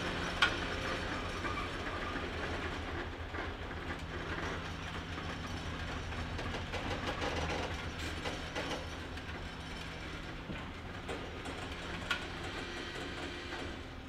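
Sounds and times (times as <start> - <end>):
diesel locomotive drone: 0.0 - 14.0
train wheels clicking and creaking: 0.0 - 14.0.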